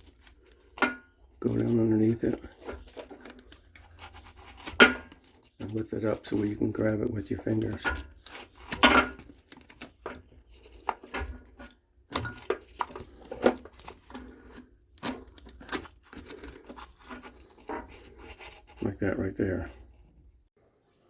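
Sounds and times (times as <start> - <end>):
wire scraping and clicking on metal: 0.0 - 19.0.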